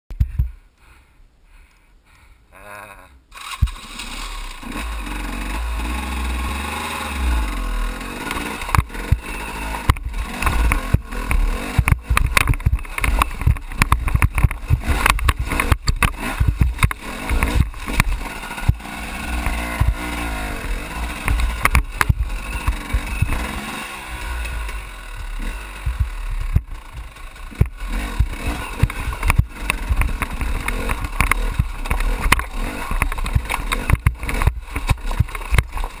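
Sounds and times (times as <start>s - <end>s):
motorcycle engine at low revs: 3.3s - 36.0s.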